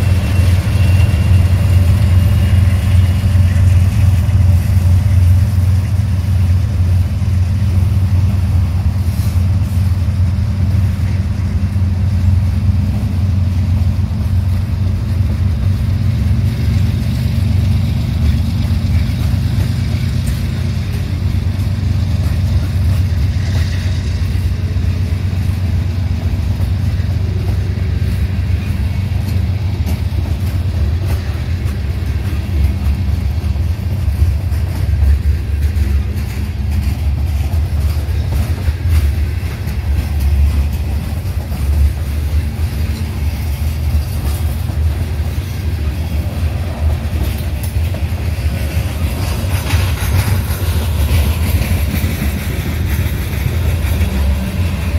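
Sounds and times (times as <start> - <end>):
low engine rumble: 0.0 - 54.9.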